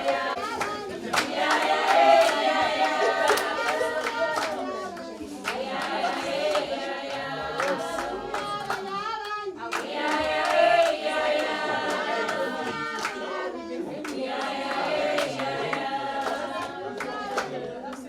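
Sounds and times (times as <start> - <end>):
group singing: 0.0 - 18.0
rhythmic hand clapping: 0.0 - 18.0.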